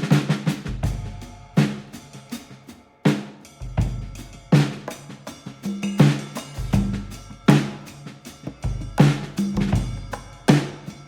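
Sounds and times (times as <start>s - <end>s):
cymbal and snare: 0.0s - 11.0s.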